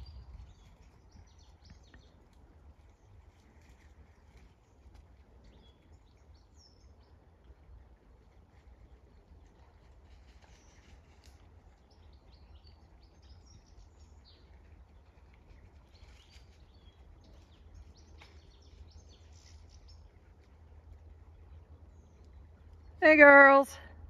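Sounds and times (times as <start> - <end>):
low steady rumble: 0.0 - 10.4, 11.6 - 24.0
faint birdsong chirps and trills: 0.0 - 24.0.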